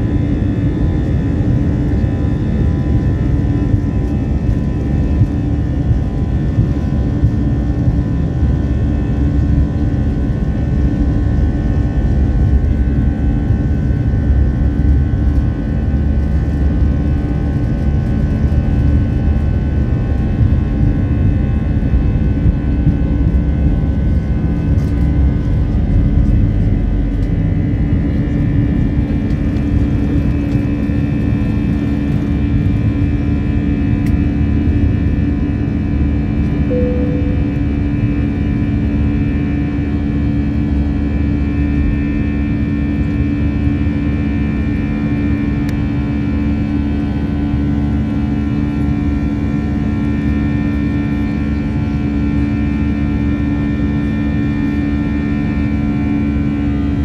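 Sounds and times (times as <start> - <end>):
airliner engines rumbling: 0.0 - 57.0.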